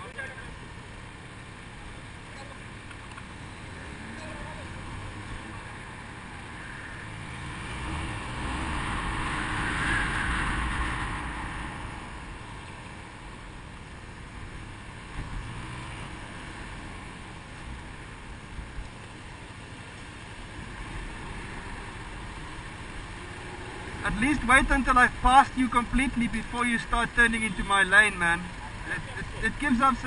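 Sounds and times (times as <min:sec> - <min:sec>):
road and wind noise: 0:00.0 - 0:30.0.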